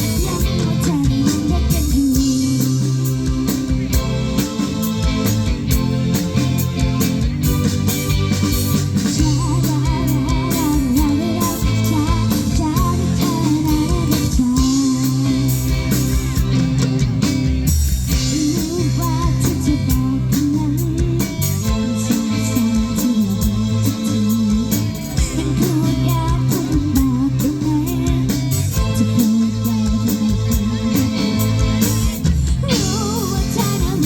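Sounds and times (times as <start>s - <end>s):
live pop band playing: 0.0s - 34.0s.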